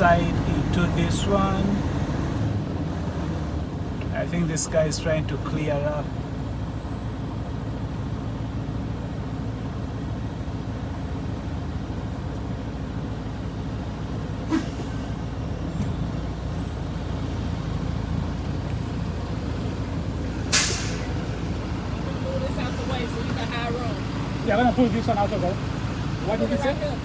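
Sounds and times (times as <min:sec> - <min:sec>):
diesel truck engine rumbling: 0:00.0 - 0:27.0.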